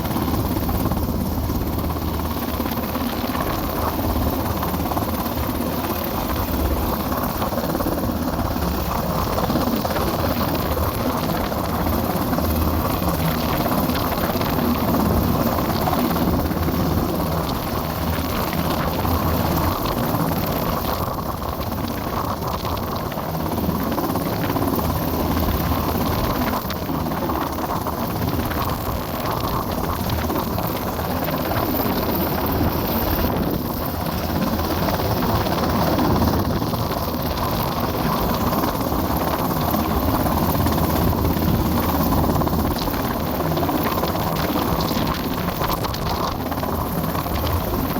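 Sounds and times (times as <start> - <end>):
helicopter hovering: 0.0 - 47.9
strong wind: 0.0 - 47.9.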